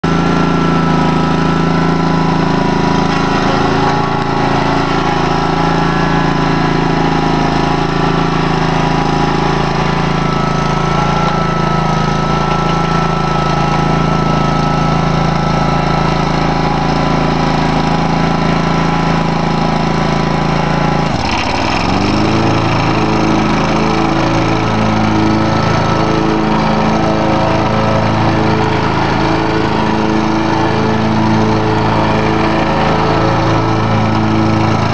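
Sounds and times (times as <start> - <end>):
mower engine running: 0.0 - 34.9.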